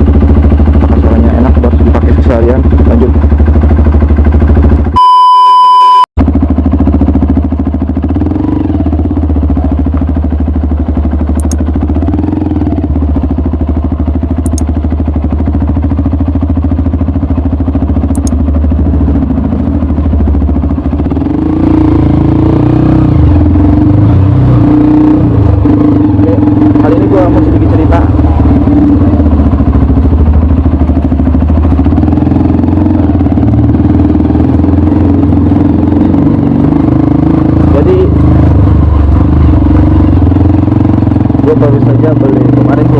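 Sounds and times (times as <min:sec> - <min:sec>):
motorcycle engine revving: 0:00.0 - 0:05.0, 0:06.2 - 0:42.9.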